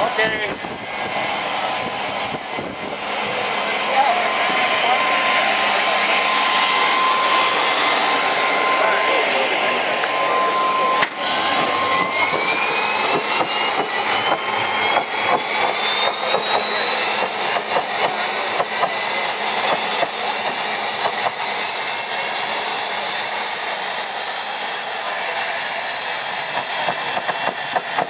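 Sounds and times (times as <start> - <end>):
jet engine turbine whine: 0.0 - 28.0.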